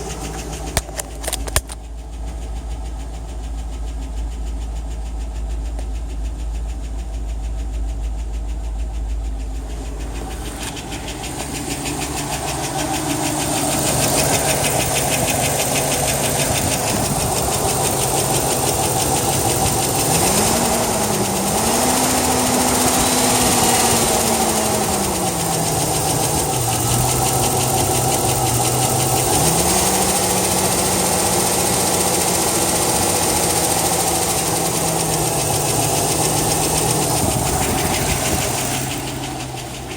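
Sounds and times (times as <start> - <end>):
engine knocking tick: 0.0 - 39.9.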